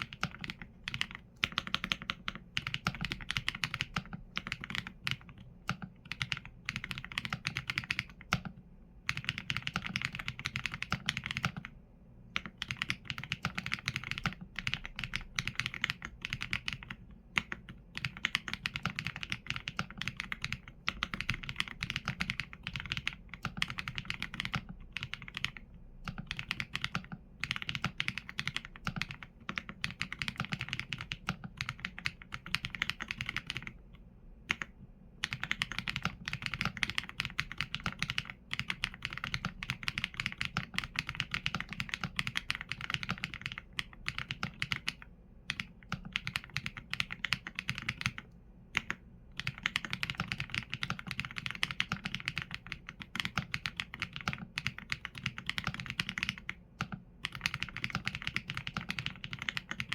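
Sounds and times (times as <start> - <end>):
mechanical keyboard typing: 0.0 - 11.8, 12.4 - 33.8, 34.5 - 59.9.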